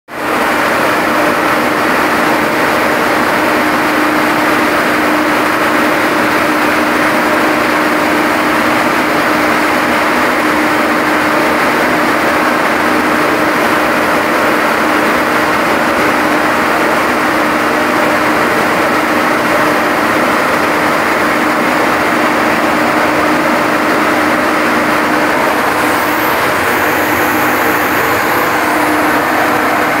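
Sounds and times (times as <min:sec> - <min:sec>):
motor running with steady hum: 0:01.5 - 0:30.0.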